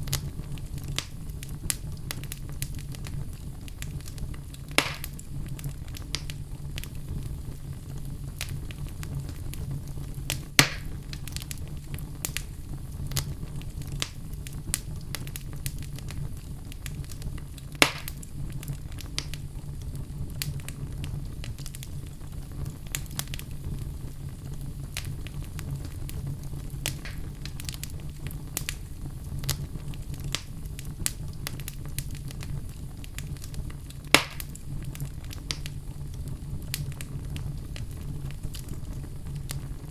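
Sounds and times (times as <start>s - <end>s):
sharp pops of burning wood: 0.0s - 7.4s, 8.0s - 39.9s
fire crackling in a fireplace: 0.0s - 39.9s.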